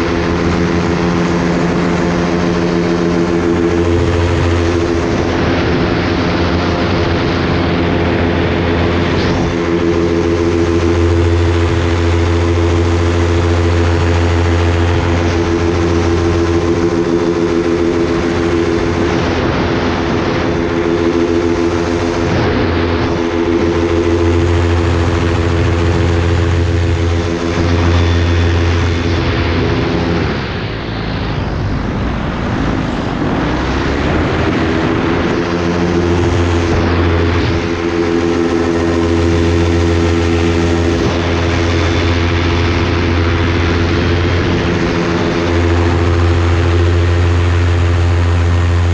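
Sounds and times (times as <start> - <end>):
propeller aircraft engine droning: 0.0 - 48.9.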